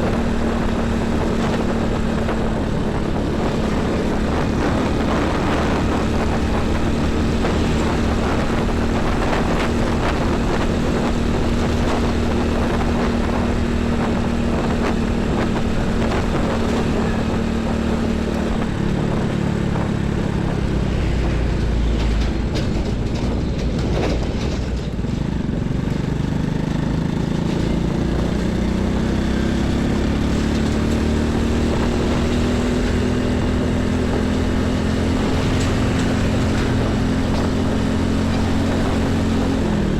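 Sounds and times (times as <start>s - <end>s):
heavy highway traffic: 0.0s - 39.9s.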